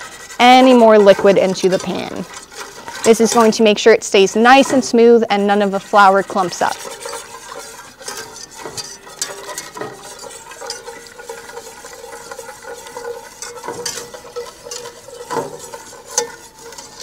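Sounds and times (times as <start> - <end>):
liquid sloshing: 0.0 - 17.0
wire whisk scraping a pot: 0.0 - 17.0.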